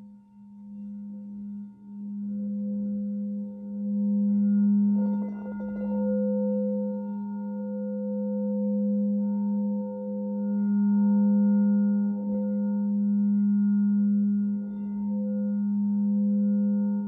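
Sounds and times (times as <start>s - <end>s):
crystal singing bowl humming: 0.0s - 17.0s.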